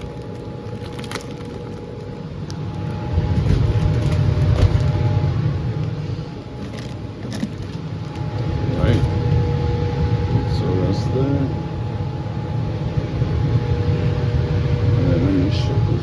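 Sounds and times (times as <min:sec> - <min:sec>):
blower roaring: 0:00.0 - 0:16.0
low rumble: 0:00.0 - 0:16.0.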